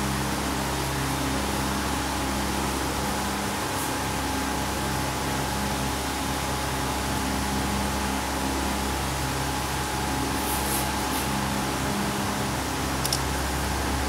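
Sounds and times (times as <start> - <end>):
even hiss: 0.1 - 14.0.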